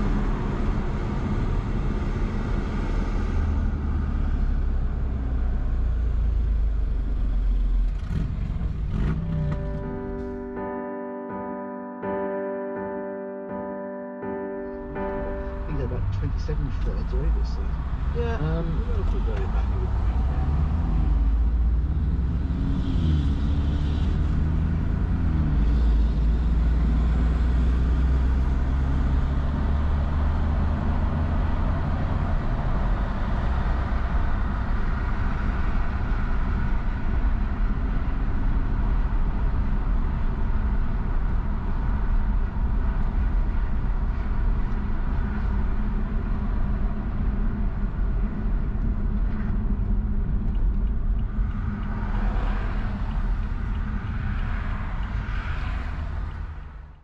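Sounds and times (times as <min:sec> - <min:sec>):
tyre and road noise: 0:00.0 - 0:10.4, 0:15.0 - 0:57.0
car engine hum: 0:00.0 - 0:10.6, 0:14.7 - 0:57.0.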